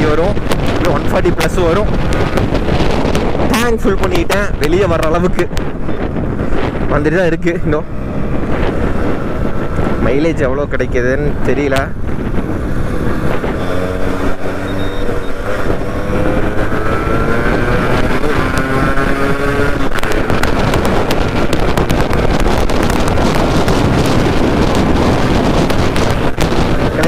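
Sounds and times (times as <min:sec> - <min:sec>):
wind on microphone: 0:00.0 - 0:27.0.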